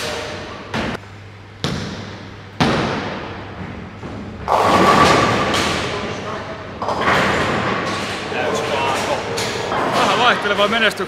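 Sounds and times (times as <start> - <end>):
bowling balls hitting pins: 1.6 - 11.0.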